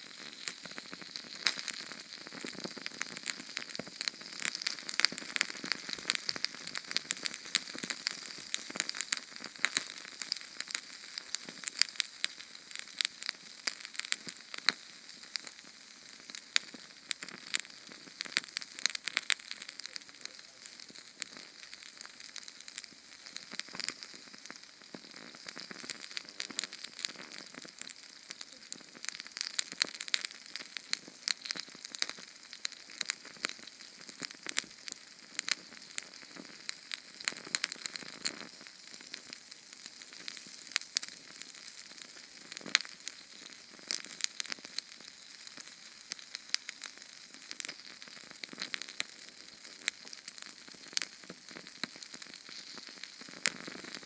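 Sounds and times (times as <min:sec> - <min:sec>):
small flame crackling and hissing: 0:00.0 - 0:54.0.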